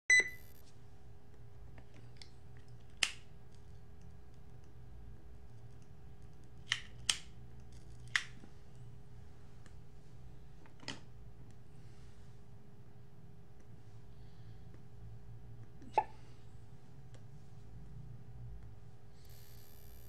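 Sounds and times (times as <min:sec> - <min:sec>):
faint steady hum: 0:00.1 - 0:20.0.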